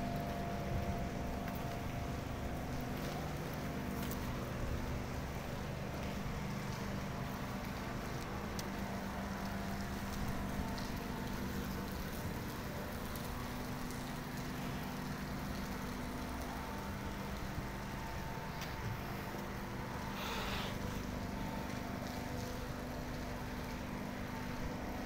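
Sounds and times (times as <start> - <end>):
low machinery drone: 0.0 - 25.0.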